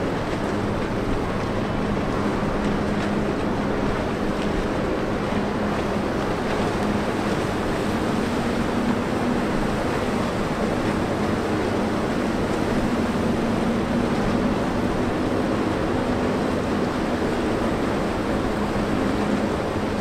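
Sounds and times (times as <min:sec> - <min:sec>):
diesel engine low hum: 0:00.0 - 0:20.0
steady rushing noise: 0:00.0 - 0:20.0.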